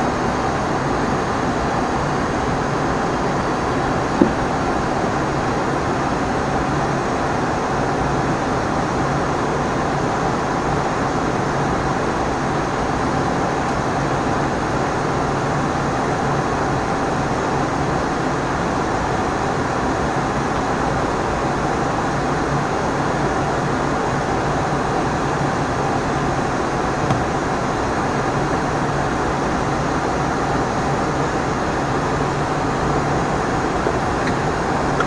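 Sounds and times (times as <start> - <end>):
airplane cabin airflow and engine hum: 0.0 - 35.0.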